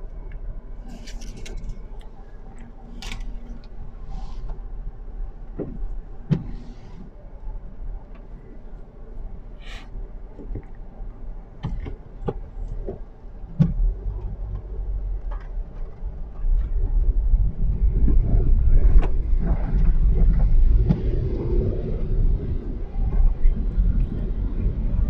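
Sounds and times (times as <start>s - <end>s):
road and engine rumble: 0.0s - 25.0s.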